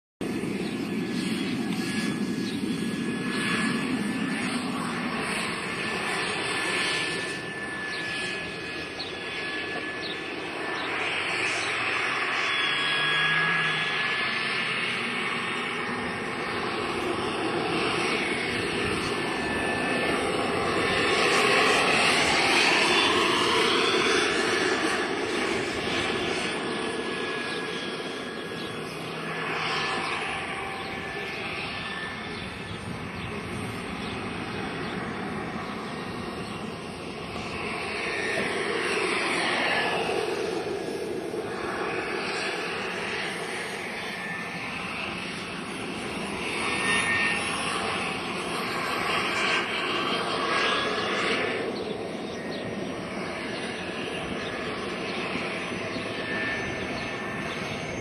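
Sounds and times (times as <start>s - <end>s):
model helicopter rotor whirring: 0.4s - 58.0s.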